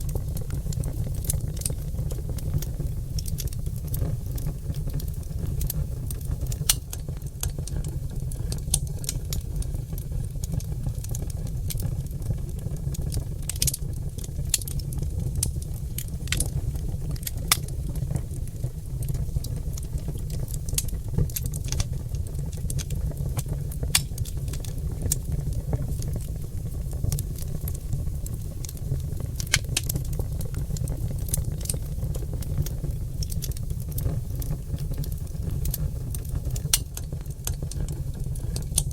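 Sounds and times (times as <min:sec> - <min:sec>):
log fire crackling and popping: 0:00.0 - 0:38.9
low rumble of fire: 0:00.0 - 0:38.9.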